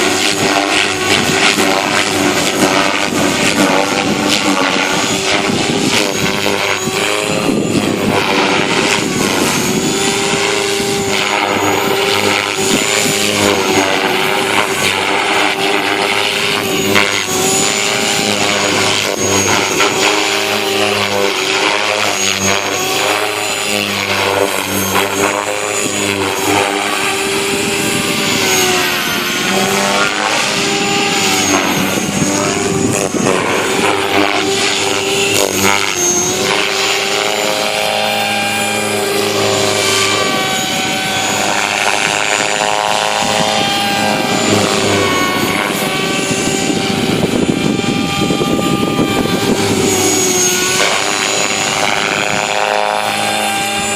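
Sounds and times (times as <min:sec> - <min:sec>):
rc helicopter motor whine: 0:00.0 - 0:53.9.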